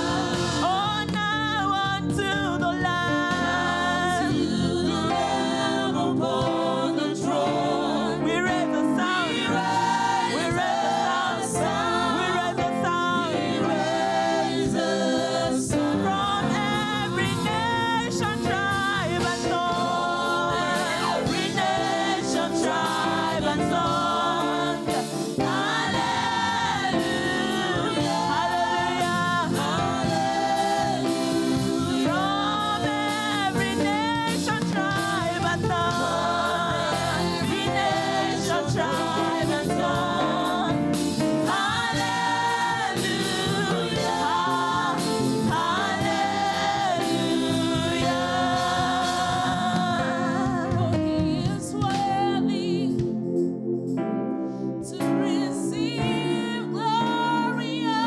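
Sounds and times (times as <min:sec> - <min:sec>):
choir singing gospel: 0:00.0 - 0:58.0
instrumental backing: 0:00.0 - 0:58.0.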